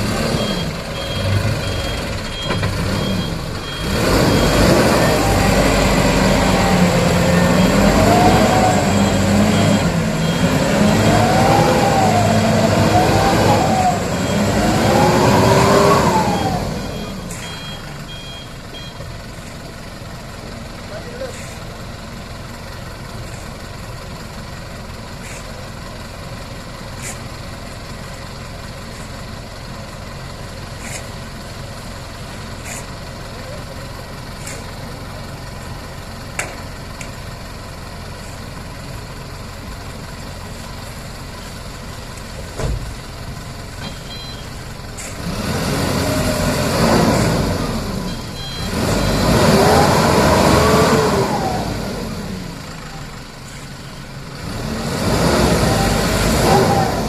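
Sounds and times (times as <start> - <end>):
diesel truck engine idling and revving: 0.0 - 57.0.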